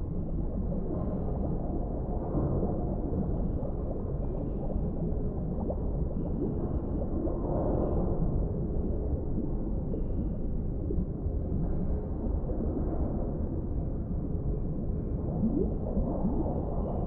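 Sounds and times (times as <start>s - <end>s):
low underwater rumble: 0.0s - 17.0s
soft bubbling and gurgling: 0.0s - 17.0s.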